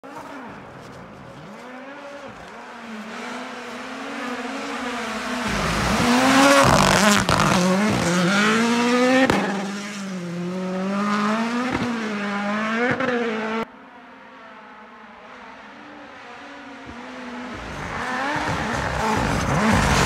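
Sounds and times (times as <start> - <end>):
rally car engine revving: 0.0 - 13.7, 15.3 - 20.0.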